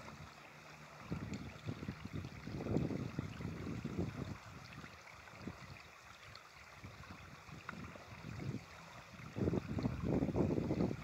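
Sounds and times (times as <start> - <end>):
wind on microphone: 1.0 - 5.8, 6.8 - 11.0.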